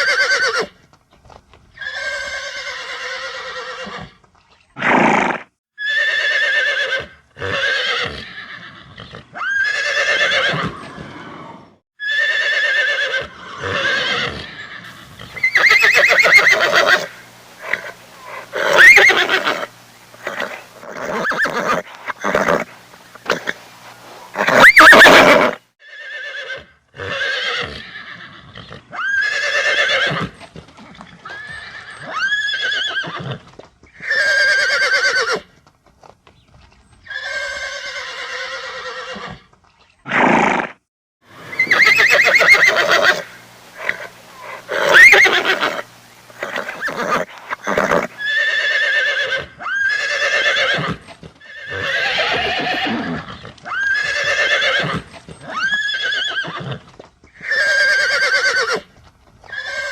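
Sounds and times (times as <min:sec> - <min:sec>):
horse whinnying: 0:00.0 - 0:00.8, 0:01.8 - 0:04.2, 0:04.8 - 0:23.6, 0:24.2 - 0:30.4, 0:31.0 - 0:35.5, 0:37.0 - 0:59.9.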